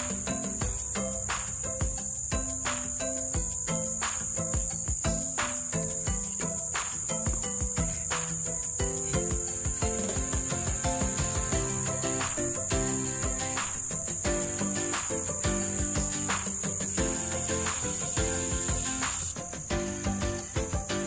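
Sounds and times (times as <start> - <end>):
insects chirring: 0.0 - 21.0
simple tune with beat: 0.0 - 21.0.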